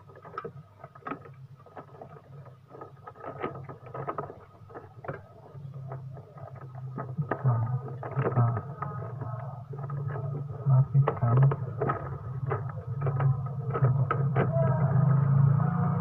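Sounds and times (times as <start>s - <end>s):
parts clicking and knocking: 0.0s - 15.5s
low steady hum: 0.0s - 16.0s.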